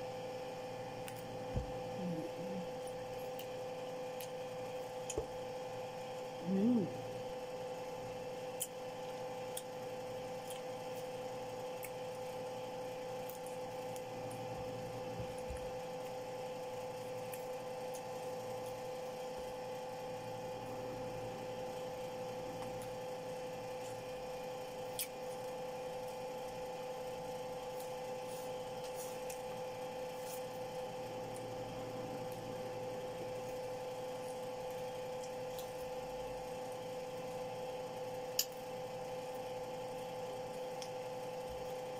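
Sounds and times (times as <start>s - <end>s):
appliance motor hum: 0.0s - 41.9s.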